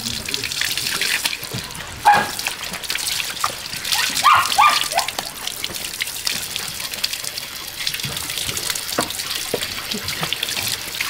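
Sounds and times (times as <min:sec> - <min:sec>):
hose water splashing on concrete: 0:00.0 - 0:11.0.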